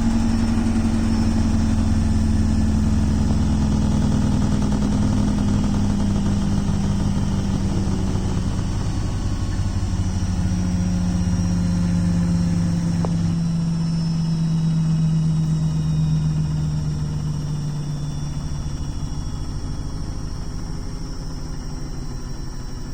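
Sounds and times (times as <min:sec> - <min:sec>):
washing machine motor hum: 0:00.0 - 0:22.9.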